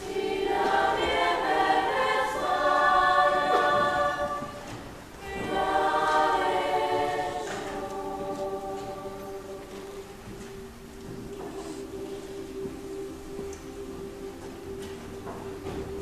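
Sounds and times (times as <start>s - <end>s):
choir singing a cappella: 0.0s - 16.0s.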